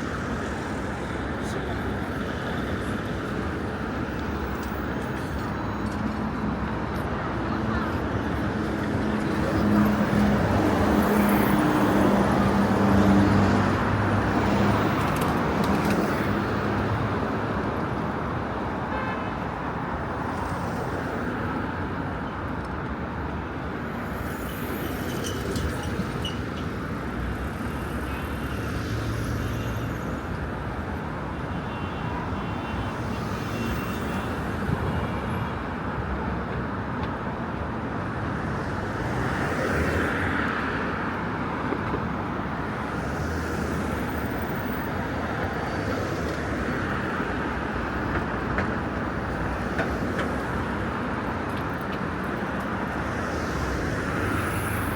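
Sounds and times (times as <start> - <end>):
passing vehicles: 0.0 - 54.9.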